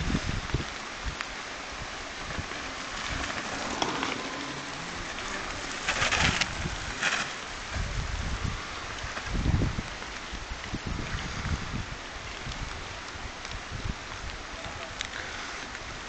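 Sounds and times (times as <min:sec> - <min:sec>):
bike tyres hissing on dirt: 0:00.0 - 0:16.0
outdoor rustle: 0:00.0 - 0:16.0.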